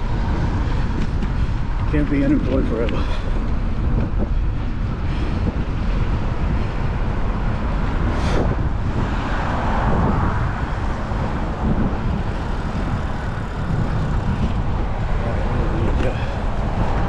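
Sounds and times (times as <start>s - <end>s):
traffic on wet road: 0.0s - 17.0s
wind rumbling on microphone: 0.0s - 17.0s.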